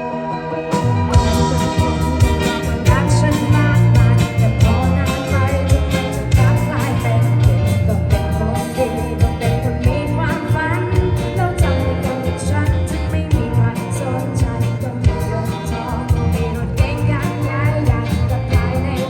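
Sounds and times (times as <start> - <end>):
bass guitar: 0.0 - 19.0
person singing: 0.0 - 19.0
steady drum beat: 0.8 - 19.0.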